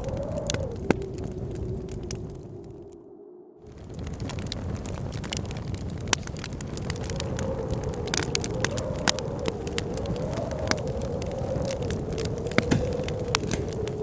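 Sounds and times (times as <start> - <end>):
wood fire crackling and popping: 0.0 - 3.0, 3.6 - 14.0
howling blizzard wind: 0.0 - 14.0.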